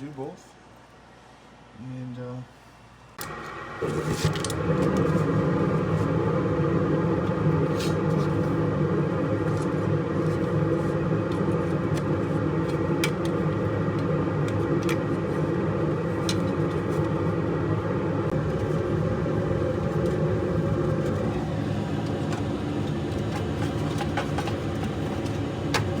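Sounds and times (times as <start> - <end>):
low mechanical rumble and hum: 0.0 - 26.0.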